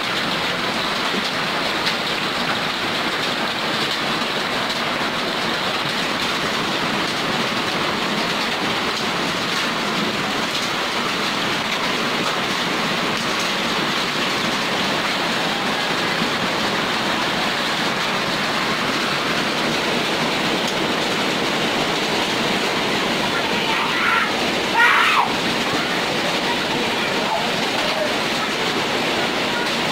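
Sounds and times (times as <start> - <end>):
heavy rain and hail: 0.0 - 29.9.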